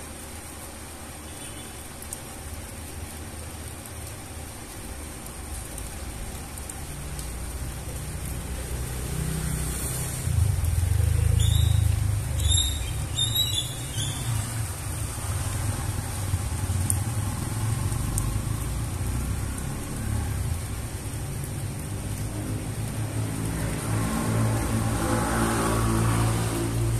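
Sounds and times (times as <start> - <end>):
rain on concrete: 0.0 - 26.9.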